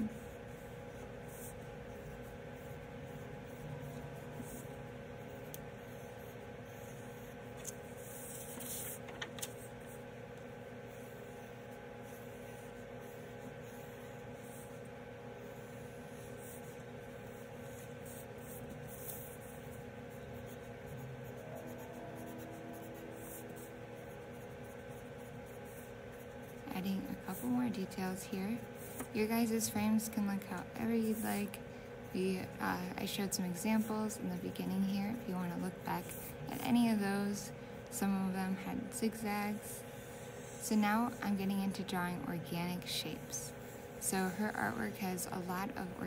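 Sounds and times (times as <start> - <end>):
pencil scratching on paper: 0.0 - 37.0, 38.7 - 46.0
steady low hum: 0.0 - 46.0.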